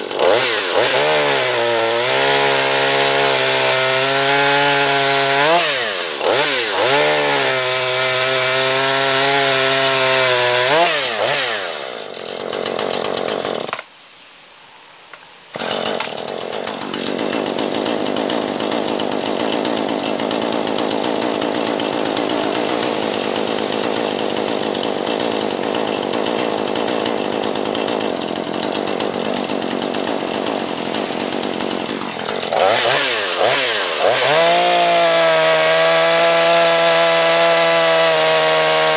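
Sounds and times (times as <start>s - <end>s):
chainsaw revving: 0.0s - 13.8s, 15.6s - 38.9s
chainsaw cutting wood: 0.0s - 13.9s, 15.1s - 38.9s.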